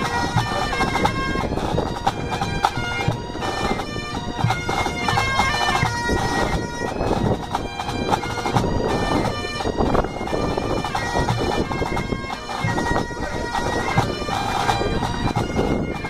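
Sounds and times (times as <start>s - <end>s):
bagpipes playing melody over drones: 0.0s - 16.0s
snare and bass drums beating: 0.0s - 16.0s.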